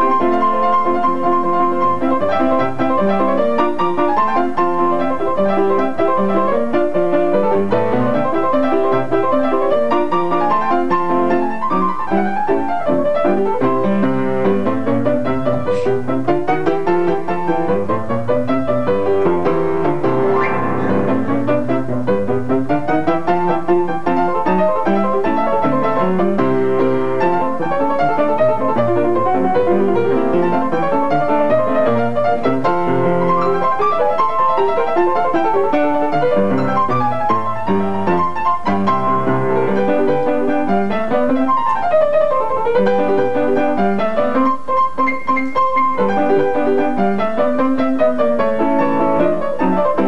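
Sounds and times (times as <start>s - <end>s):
instrumental piano music: 0.0s - 50.0s.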